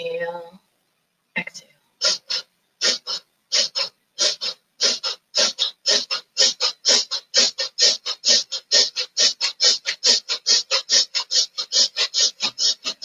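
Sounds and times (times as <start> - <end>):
woman breathing rapidly: 2.0 - 13.0.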